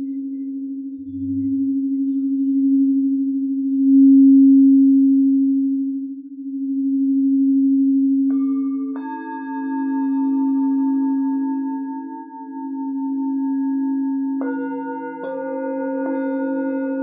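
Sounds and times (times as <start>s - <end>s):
singing bowl low tone: 0.0s - 17.0s.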